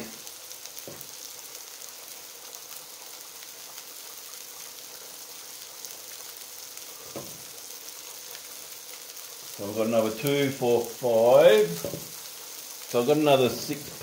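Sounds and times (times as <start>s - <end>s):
patties sizzling in frying pan: 0.0s - 14.0s.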